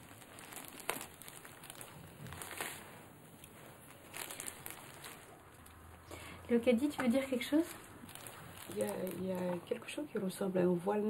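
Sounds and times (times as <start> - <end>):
faint rustling and crinkling: 0.0 - 11.0.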